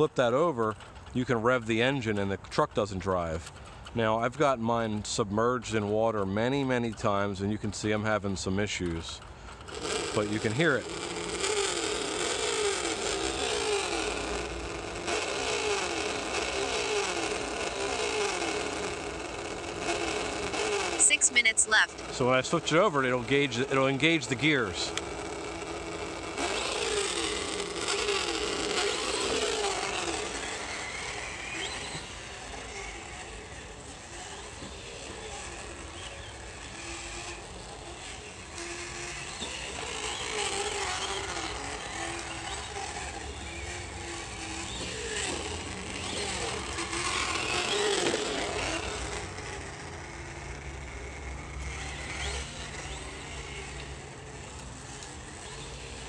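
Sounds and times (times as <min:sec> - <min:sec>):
recorded engine sound from speaker: 0:00.0 - 0:56.0.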